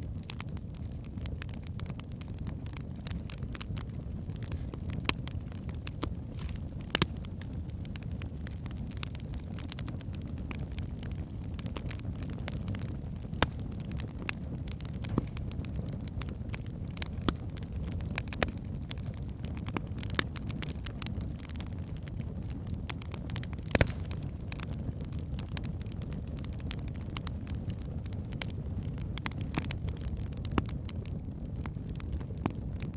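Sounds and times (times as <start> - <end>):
log fire crackling: 0.0 - 32.9.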